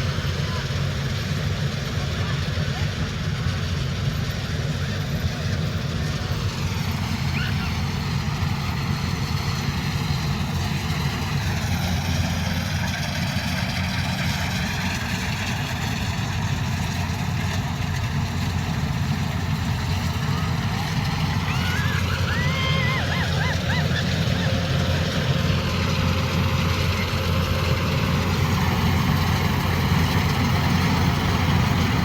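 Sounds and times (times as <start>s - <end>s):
combine harvester diesel engine: 0.0s - 32.0s.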